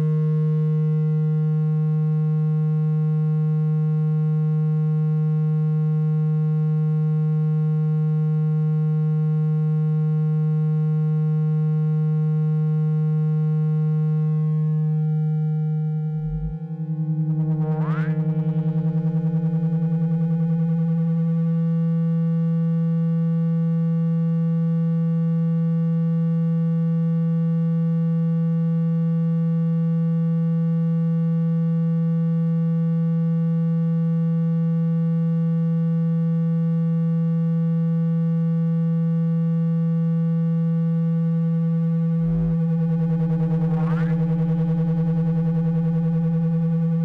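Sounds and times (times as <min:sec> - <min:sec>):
low electronic buzzing tone: 0:00.0 - 0:47.0.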